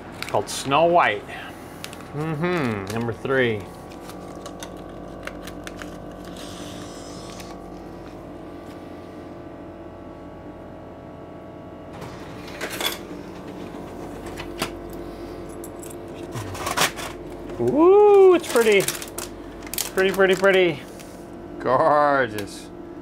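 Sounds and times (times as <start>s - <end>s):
vending machine humming: 0.0s - 23.0s.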